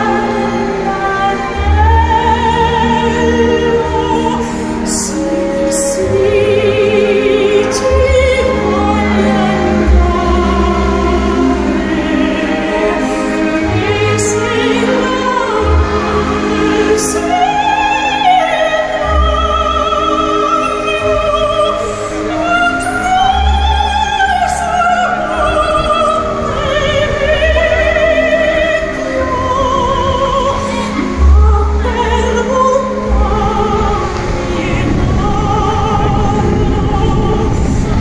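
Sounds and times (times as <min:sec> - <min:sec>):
operatic singer with vibrato: 0:00.0 - 0:38.0
orchestral accompaniment: 0:00.0 - 0:38.0.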